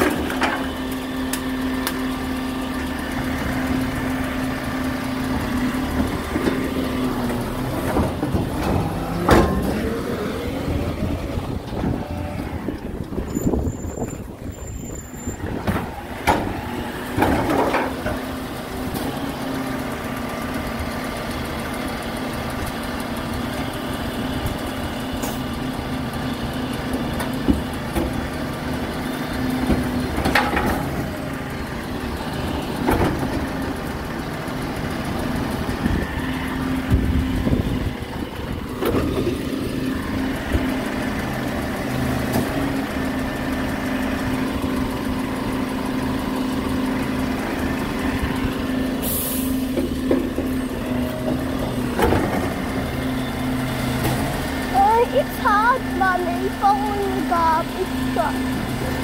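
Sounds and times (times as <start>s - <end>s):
truck engine running steadily: 0.0s - 59.0s.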